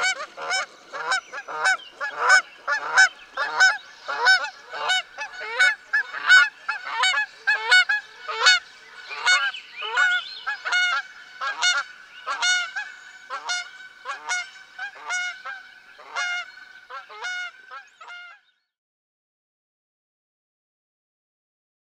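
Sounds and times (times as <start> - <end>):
geese honking: 0.0 - 18.4.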